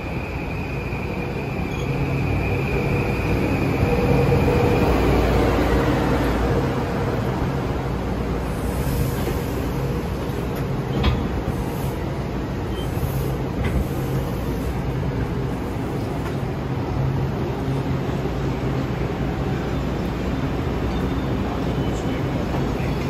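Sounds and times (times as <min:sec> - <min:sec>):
electric train rolling past: 0:00.0 - 0:23.0.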